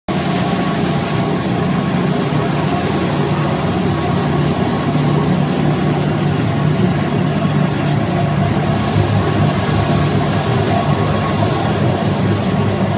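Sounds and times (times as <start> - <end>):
carpet washing machine humming: 0.1 - 12.9.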